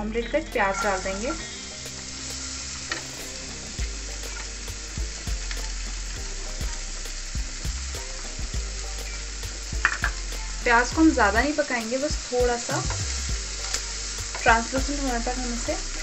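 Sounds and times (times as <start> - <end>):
onion sizzling in butter: 0.0 - 16.0.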